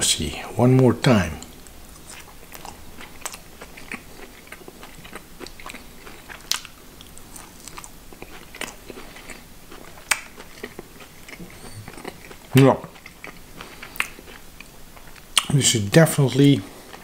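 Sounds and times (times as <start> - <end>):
person chewing crunchy sausage: 1.4 - 15.5, 16.6 - 17.0.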